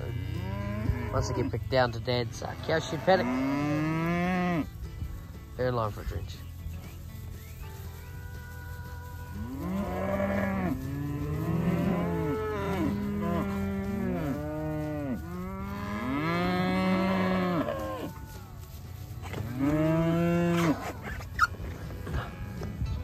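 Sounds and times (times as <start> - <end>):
calves mooing: 0.0 - 5.4, 8.3 - 23.0.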